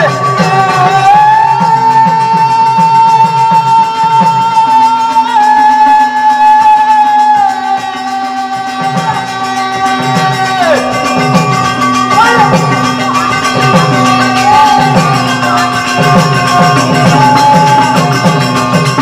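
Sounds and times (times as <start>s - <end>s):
harmonium: 0.0s - 19.0s.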